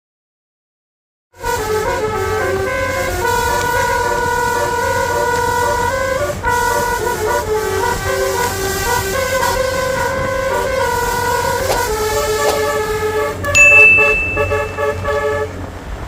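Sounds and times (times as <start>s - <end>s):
bus horn playing a tune: 1.4s - 15.9s.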